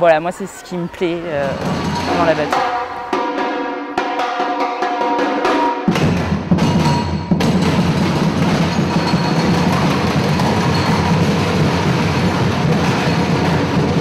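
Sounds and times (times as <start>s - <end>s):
high drums ringing strokes: 1.3s - 14.0s.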